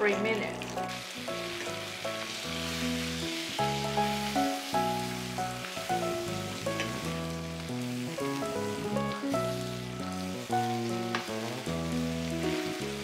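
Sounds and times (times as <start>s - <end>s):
background music with held notes: 0.0s - 13.0s
fish sizzling in a frying pan: 0.0s - 13.0s.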